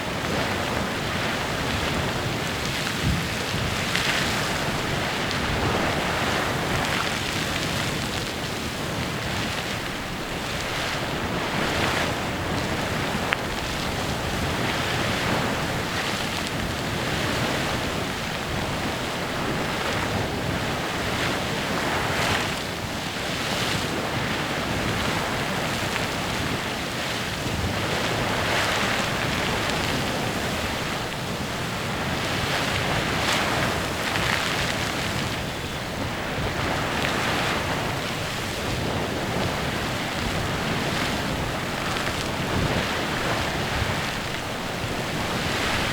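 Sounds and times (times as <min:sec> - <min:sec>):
geyser rush of water and steam: 0:00.0 - 0:45.9.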